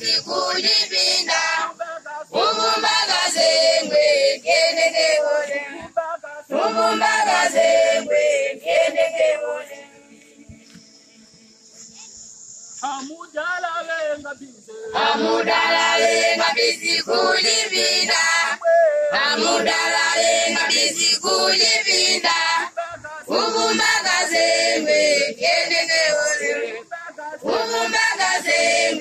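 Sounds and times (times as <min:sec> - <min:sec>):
congregation singing a hymn: 0:00.0 - 0:11.9, 0:14.7 - 0:29.0.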